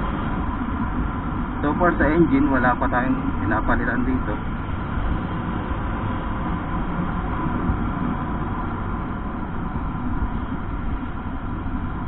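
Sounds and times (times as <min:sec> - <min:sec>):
wind and road rush: 0:00.0 - 0:12.0.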